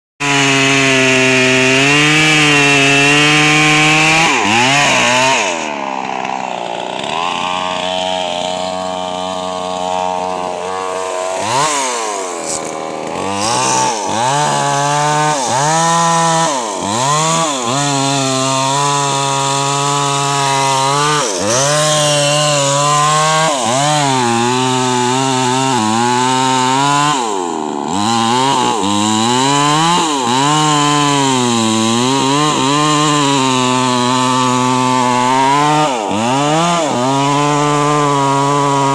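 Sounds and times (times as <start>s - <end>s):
chainsaw cutting wood: 0.2s - 38.9s.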